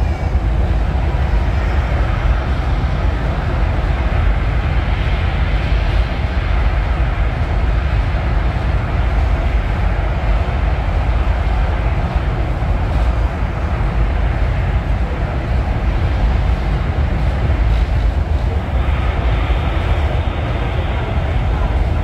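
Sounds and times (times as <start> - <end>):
funicular car low rumble: 0.0 - 22.0.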